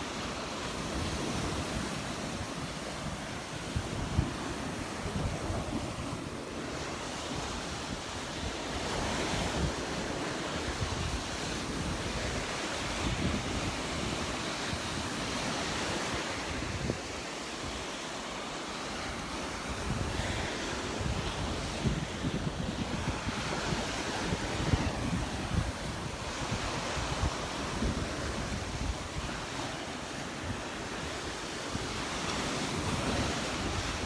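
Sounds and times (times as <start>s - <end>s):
wind buffeting microphone: 0.0s - 18.1s, 18.7s - 34.0s
surf breaking on sand: 0.0s - 34.0s.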